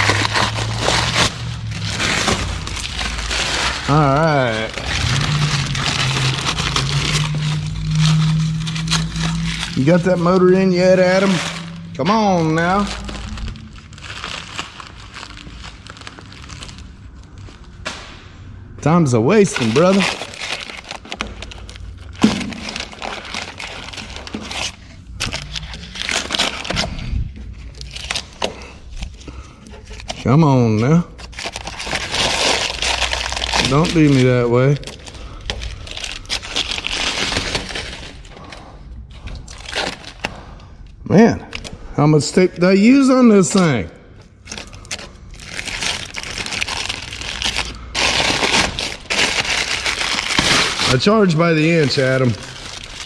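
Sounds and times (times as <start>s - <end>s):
masking tape peeling and crumpling: 0.0s - 53.0s.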